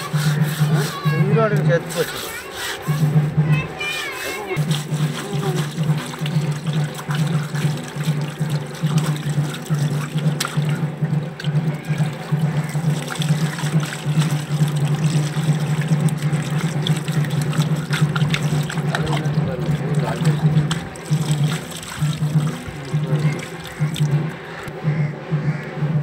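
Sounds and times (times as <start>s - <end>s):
hands scrubbing eels: 0.0s - 24.8s
water trickling and splashing: 0.0s - 24.8s.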